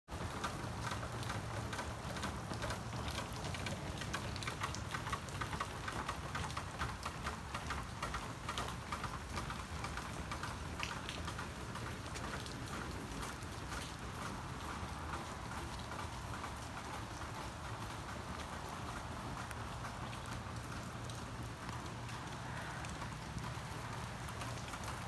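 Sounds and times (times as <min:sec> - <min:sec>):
rain falling on water and grass: 0:00.1 - 0:25.0.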